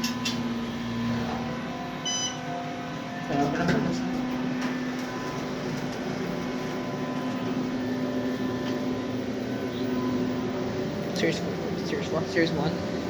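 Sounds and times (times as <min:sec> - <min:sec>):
elevator mechanical hum: 0:00.0 - 0:13.0.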